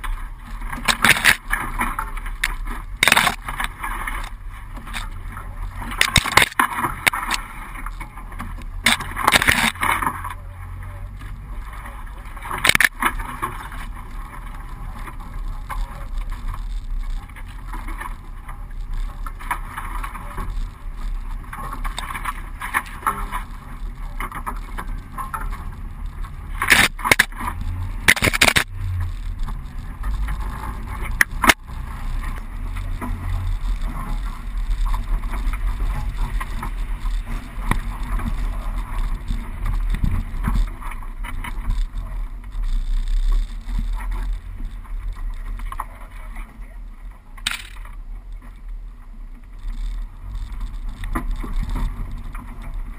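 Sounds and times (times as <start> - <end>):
vehicle engine rumble: 0.0 - 52.9.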